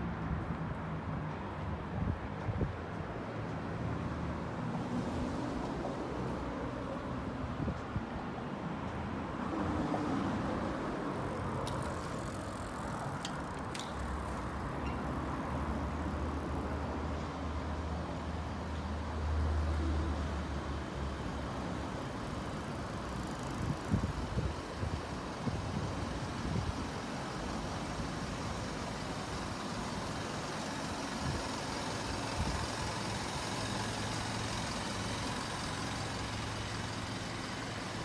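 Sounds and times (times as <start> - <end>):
cars passing on street: 0.0 - 38.0.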